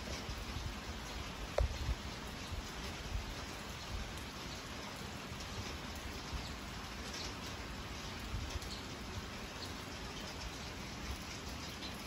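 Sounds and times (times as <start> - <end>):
light rain hiss: 0.0 - 12.0.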